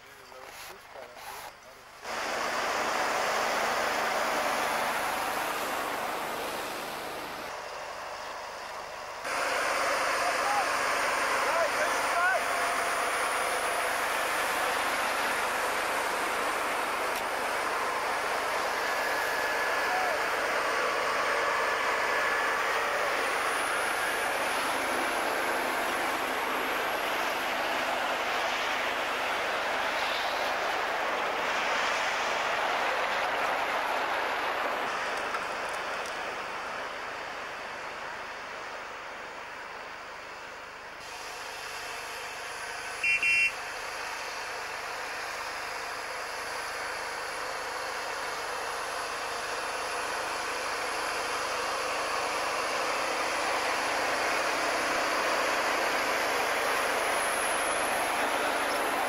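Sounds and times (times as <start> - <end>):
tracked tractor engine and tracks: 0.0 - 59.0.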